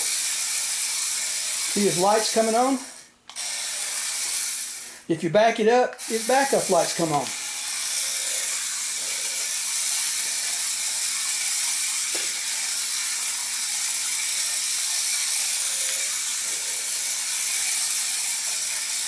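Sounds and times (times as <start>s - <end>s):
toy car motor whirring: 0.0s - 5.2s, 6.0s - 19.0s.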